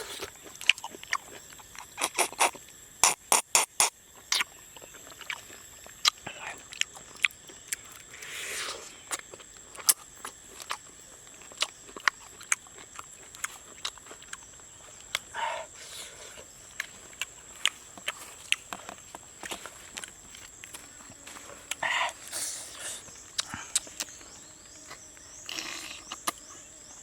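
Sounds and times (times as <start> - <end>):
chewing and lip smacking: 0.0 - 3.2, 4.2 - 26.5.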